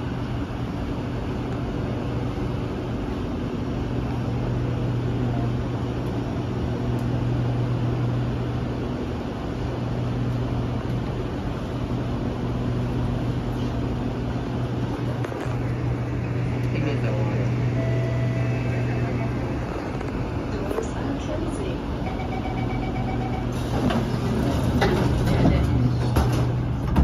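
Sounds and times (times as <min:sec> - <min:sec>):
train equipment humming: 0:00.0 - 0:27.0.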